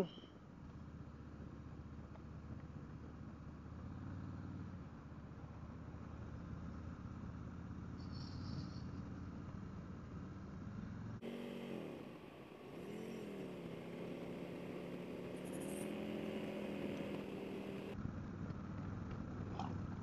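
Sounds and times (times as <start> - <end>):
motorcycle engine while riding: 0.0 - 20.0.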